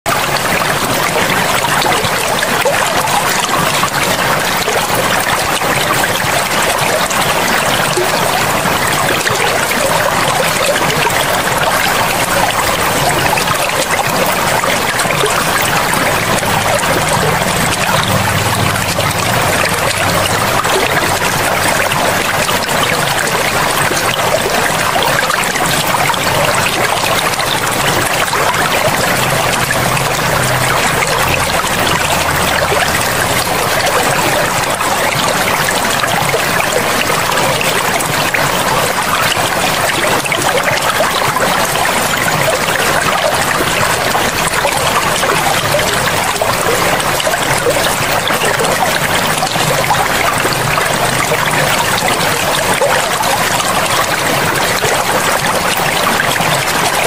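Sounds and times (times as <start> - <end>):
river water rushing: 0.1 - 57.0.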